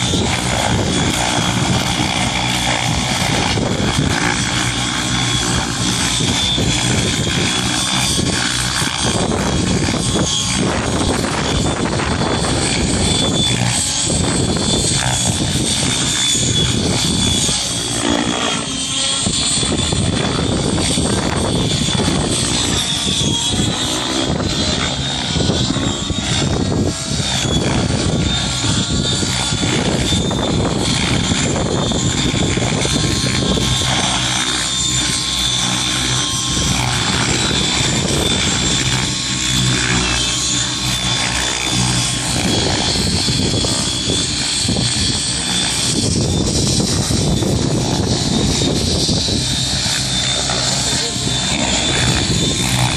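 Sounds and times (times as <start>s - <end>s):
helicopter rotor noise: 0.0s - 52.9s
model helicopter motor whine: 0.0s - 52.9s.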